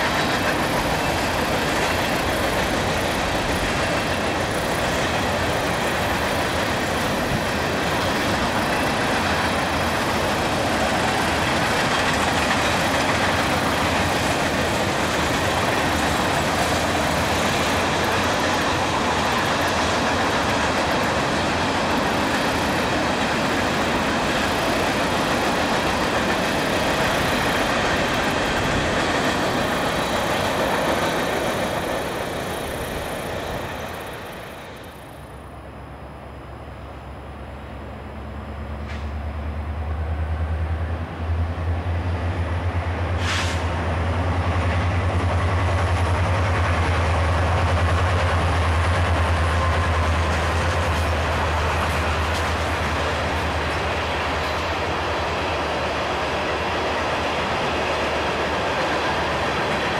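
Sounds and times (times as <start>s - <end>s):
diesel locomotive engine rumble: 0.0s - 59.9s
freight cars rolling on rails: 0.0s - 59.9s.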